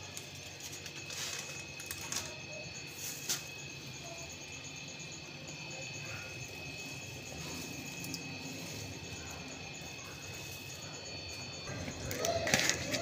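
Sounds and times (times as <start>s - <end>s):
high-pitched background whine: 0.0s - 13.0s.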